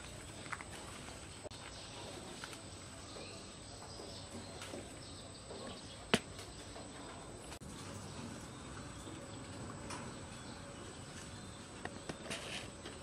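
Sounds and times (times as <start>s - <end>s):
faint chirps: 0.0s - 12.9s.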